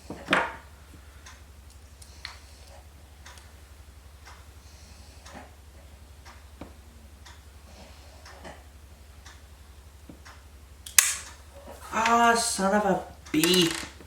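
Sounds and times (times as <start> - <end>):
faint regular ticking: 0.0 - 14.0
low steady hum: 0.0 - 14.0.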